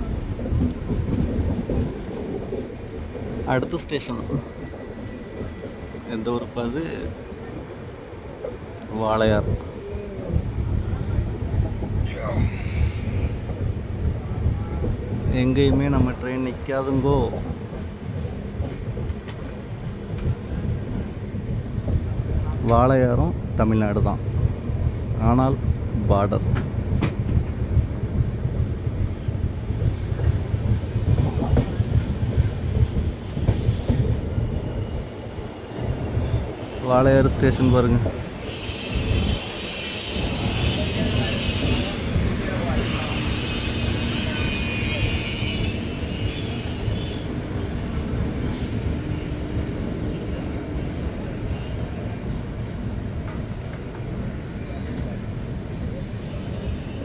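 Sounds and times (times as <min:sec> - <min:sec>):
train coach rumble: 0:00.0 - 0:57.0.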